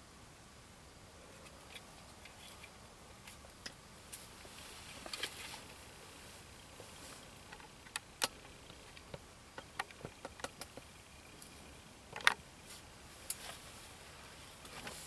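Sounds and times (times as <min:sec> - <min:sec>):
faint steady hiss: 0:00.0 - 0:15.0
handling clicks and rustles: 0:01.4 - 0:15.0.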